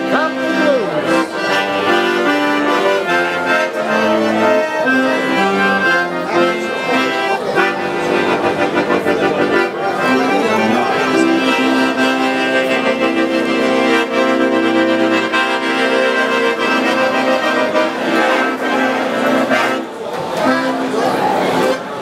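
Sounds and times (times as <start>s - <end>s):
accordion chords: 0.0s - 22.0s.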